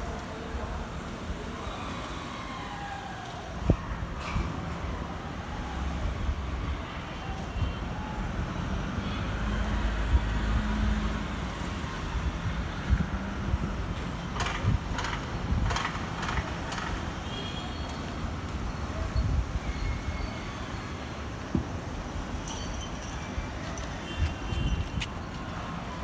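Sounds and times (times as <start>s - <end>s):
traffic engine rumble: 0.0s - 26.0s.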